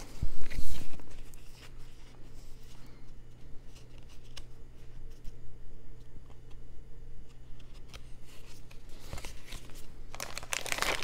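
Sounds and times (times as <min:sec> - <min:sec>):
cards rustling and sliding: 0:00.0 - 0:05.4, 0:07.2 - 0:11.0.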